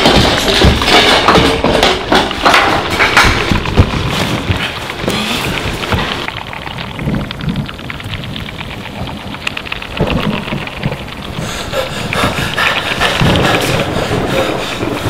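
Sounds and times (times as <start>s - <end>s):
crackling rain-like hiss: 0.0s - 15.0s
low rumbles: 2.8s - 15.0s.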